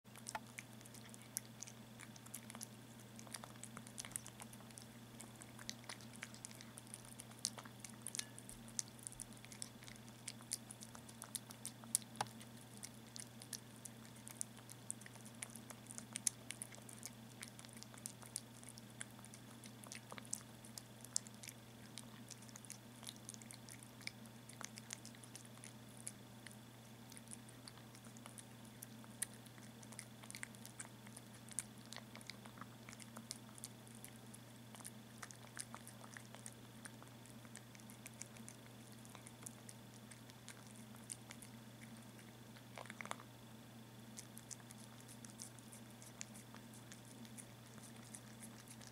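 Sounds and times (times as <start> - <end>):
faint low hum: 0.1 - 48.9
kitten chewing and licking food: 0.1 - 48.9.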